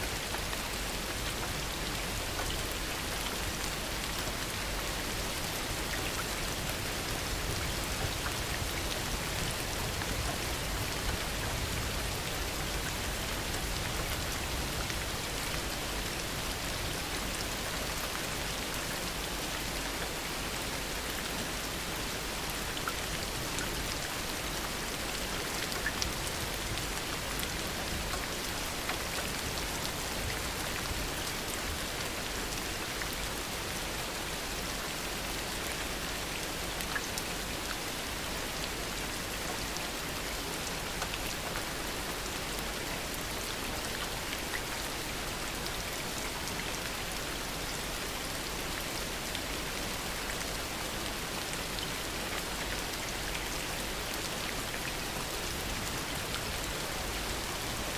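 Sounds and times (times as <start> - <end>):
raindrops ticking on surfaces: 0.0 - 57.9.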